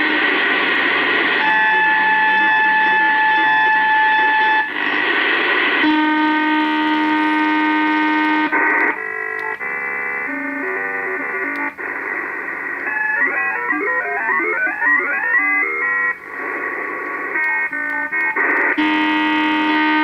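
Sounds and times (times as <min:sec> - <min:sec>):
switching electronic tones: 0:00.0 - 0:20.0.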